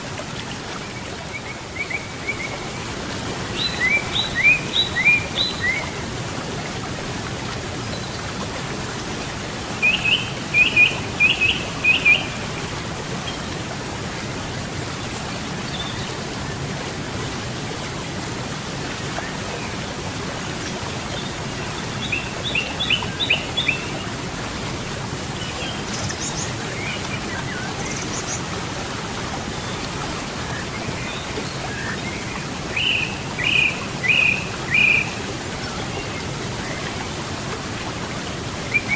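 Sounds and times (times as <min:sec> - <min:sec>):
flowing river water: 0:00.0 - 0:38.9.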